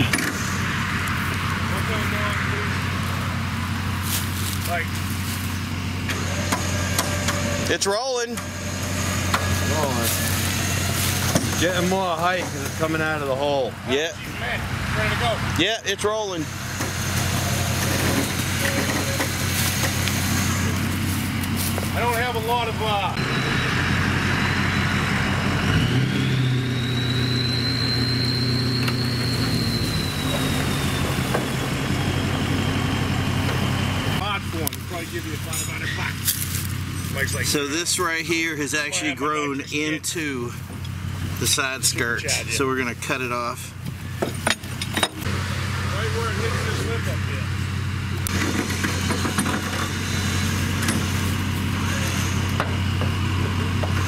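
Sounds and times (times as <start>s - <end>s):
truck engine running: 0.0s - 54.0s
winch whine: 0.0s - 54.0s.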